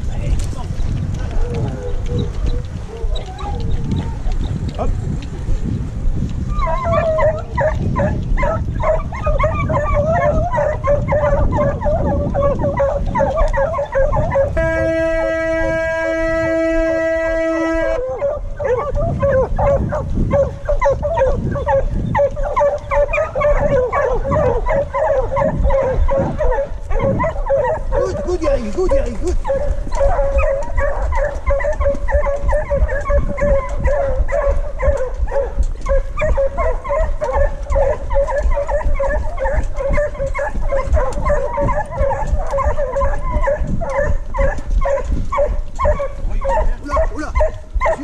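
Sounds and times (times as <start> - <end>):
hounds yelping barks: 1.3 - 4.5, 6.5 - 48.0.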